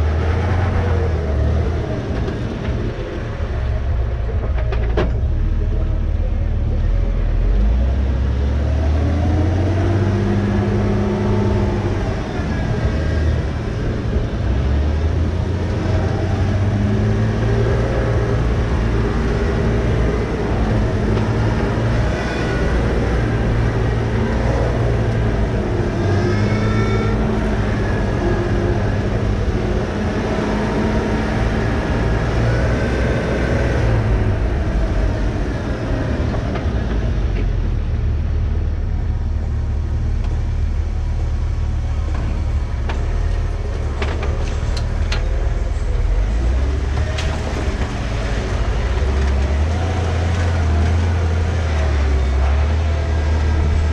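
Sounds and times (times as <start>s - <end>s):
off-road vehicle engine running: 0.0s - 53.9s.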